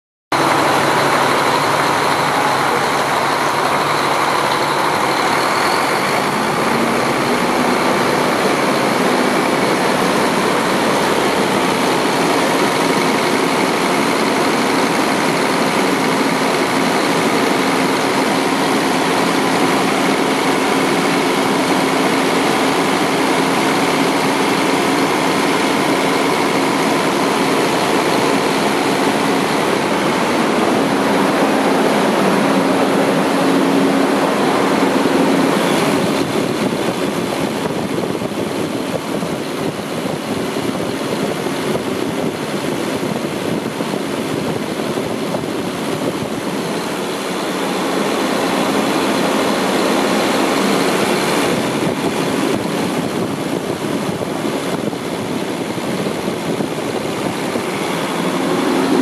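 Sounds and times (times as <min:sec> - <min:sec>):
diesel truck engine idling: 0:00.4 - 0:59.0.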